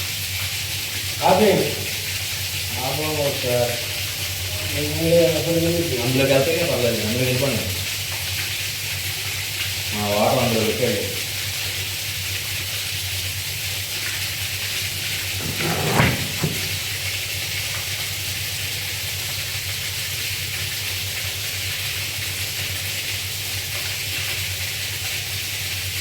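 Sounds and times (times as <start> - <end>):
rushing water hiss: 0.0 - 26.0
water pump motor humming: 0.0 - 26.0.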